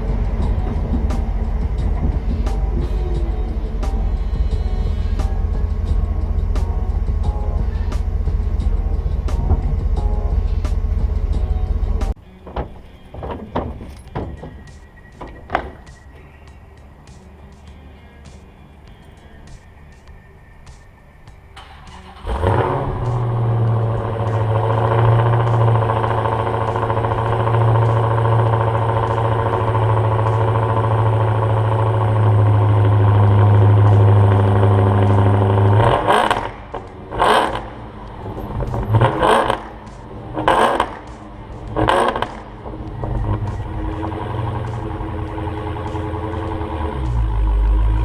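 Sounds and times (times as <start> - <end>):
vehicle engine droning: 0.0 - 48.0.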